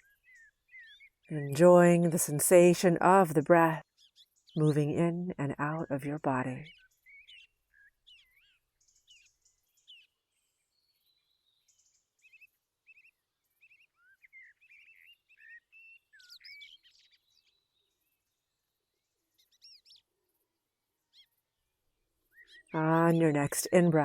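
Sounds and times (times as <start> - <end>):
small birds chirping: 0.0 - 2.0, 6.5 - 24.0.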